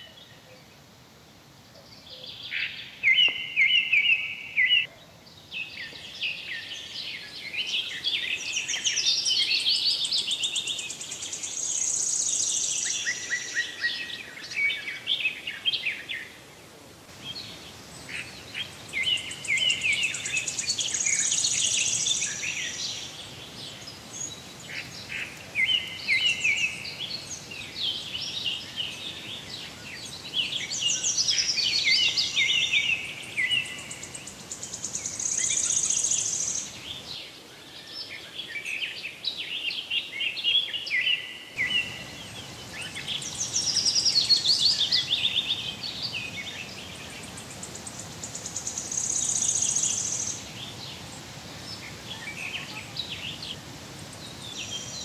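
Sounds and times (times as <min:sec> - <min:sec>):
small birds chirping and trilling: 0:01.9 - 0:16.5, 0:17.1 - 0:55.0.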